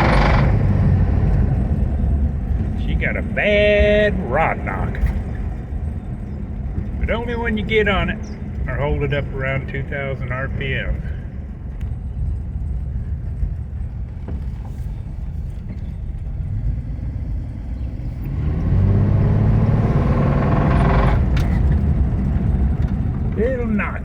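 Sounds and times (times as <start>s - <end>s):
car engine accelerating: 0.0s - 11.9s, 13.3s - 24.0s.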